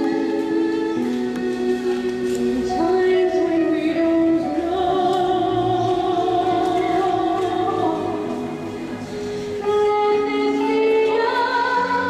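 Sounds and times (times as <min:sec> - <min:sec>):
slow choral singing: 0:00.0 - 0:12.0.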